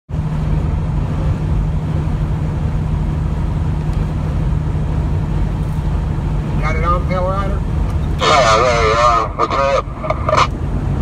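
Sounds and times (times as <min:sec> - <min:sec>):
diesel truck engine humming: 0:00.1 - 0:11.0
road noise: 0:00.1 - 0:11.0.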